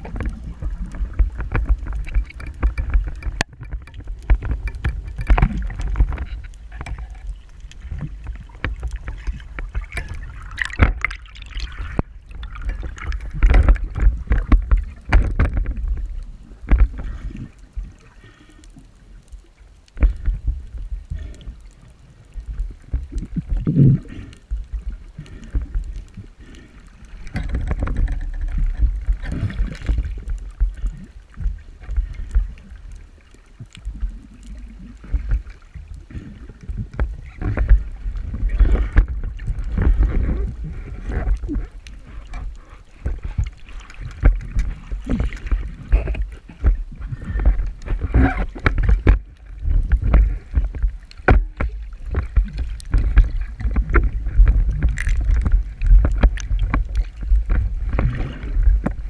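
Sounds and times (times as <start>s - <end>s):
sea water sloshing: 0.0s - 59.0s.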